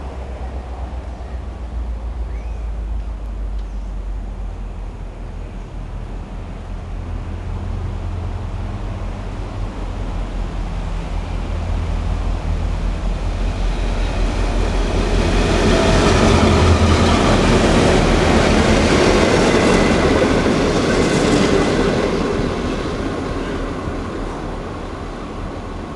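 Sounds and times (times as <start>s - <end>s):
locomotive engine rumble: 0.0s - 25.9s
train wheel and wagon noise: 0.0s - 25.9s.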